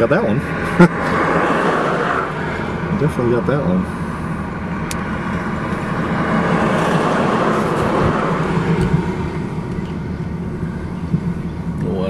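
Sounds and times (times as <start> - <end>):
truck passing on highway: 0.0 - 11.8.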